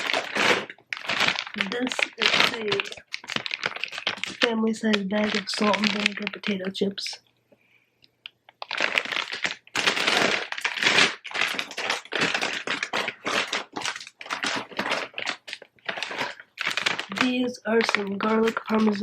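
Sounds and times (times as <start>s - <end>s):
plastic snack bag crinkling: 0.0s - 7.2s, 8.2s - 19.0s.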